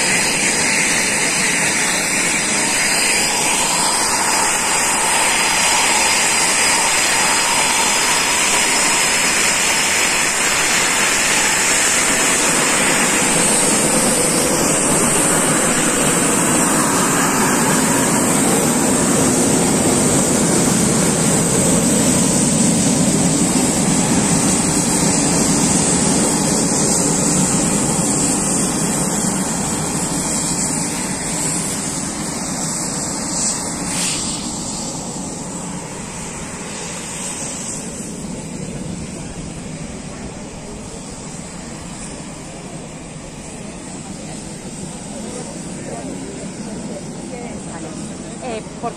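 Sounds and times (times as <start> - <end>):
jet engine high-pitched whine: 0.0 - 48.9
jet engine rushing roar: 0.0 - 48.9.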